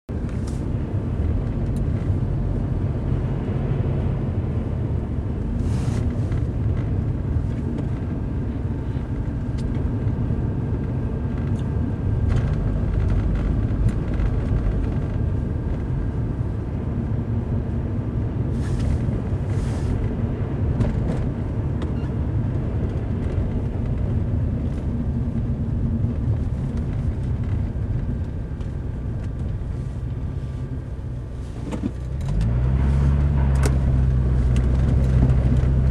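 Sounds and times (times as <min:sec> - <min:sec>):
car engine and tyres rumbling: 0:00.1 - 0:35.9.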